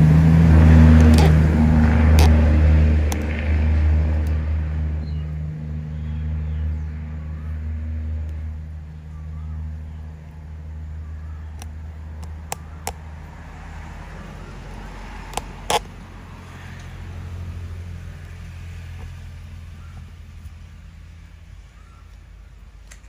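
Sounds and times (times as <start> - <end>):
low engine-like hum: 0.0 - 23.0.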